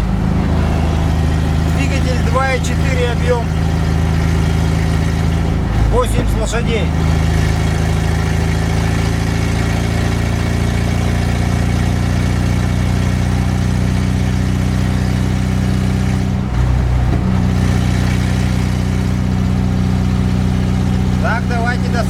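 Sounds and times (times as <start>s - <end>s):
engine with unsilenced exhaust: 0.0s - 22.0s.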